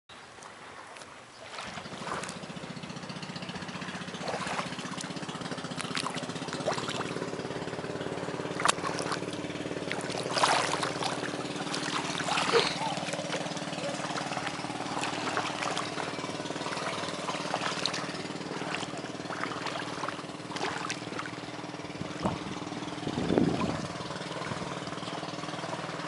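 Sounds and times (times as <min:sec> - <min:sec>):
boat engine running: 0:00.2 - 0:26.0
feet wading through water: 0:00.2 - 0:26.0.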